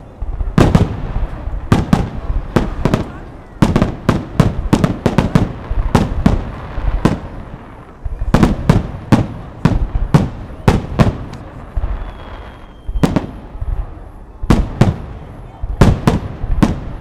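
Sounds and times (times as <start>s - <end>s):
fireworks bursting in sharp bangs: 0.0s - 17.0s.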